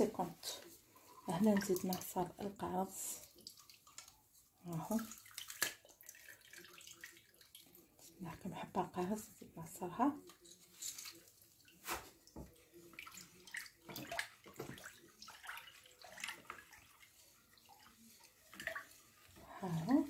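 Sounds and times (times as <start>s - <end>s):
liquid sloshing in bowl: 0.2s - 9.3s, 10.2s - 20.0s.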